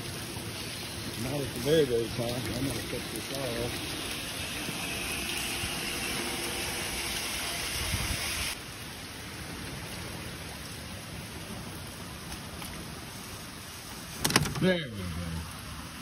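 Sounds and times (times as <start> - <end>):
water gushing onto wet ground: 0.0 - 16.0.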